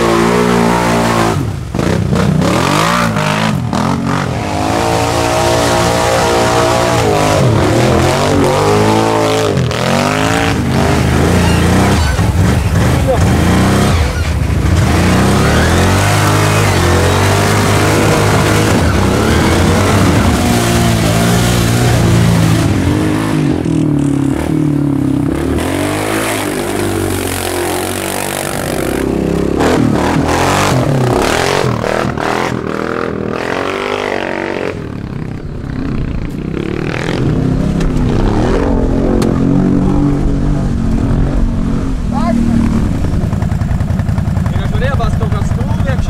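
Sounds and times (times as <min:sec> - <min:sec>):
atv engines revving: 0:00.0 - 0:46.0.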